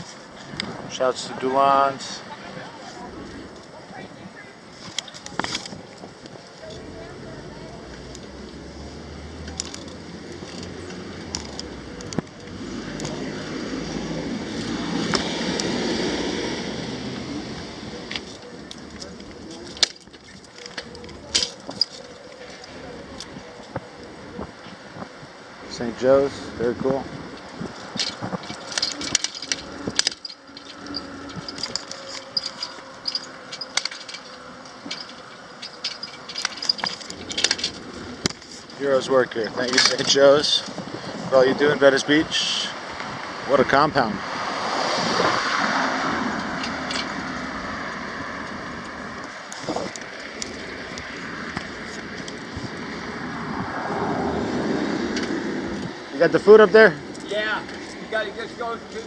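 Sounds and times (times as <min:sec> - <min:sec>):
low background noise: 0:00.0 - 0:59.0
street noise: 0:00.0 - 0:59.0.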